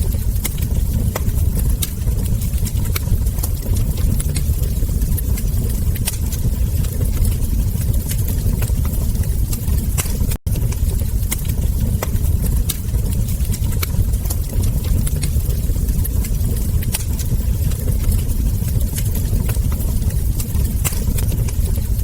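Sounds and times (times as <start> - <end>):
steady low rumble: 0.0 - 22.0
wood fire crackling: 0.0 - 22.0.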